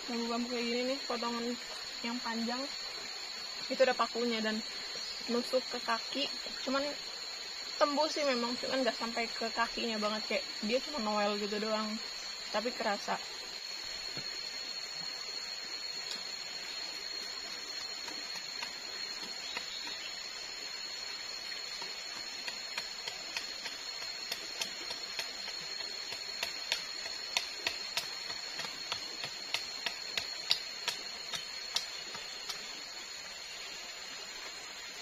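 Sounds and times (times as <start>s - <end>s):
forest insects humming: 0.0s - 35.0s.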